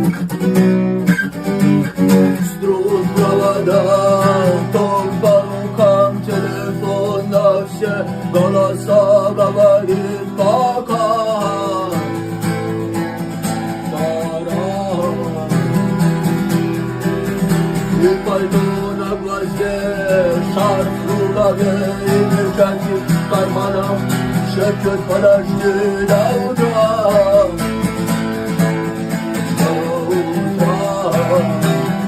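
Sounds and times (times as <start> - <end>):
strummed guitar chords: 0.0 - 32.0.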